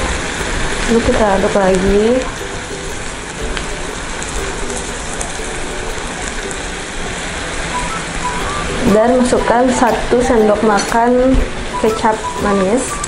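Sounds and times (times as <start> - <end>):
chillies sizzling in a frying pan: 0.0 - 13.0.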